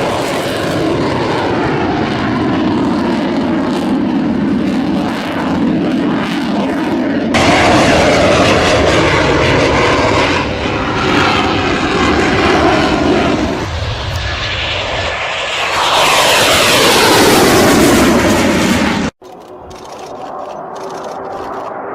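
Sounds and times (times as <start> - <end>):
fighter jet passing low: 0.0 - 21.9.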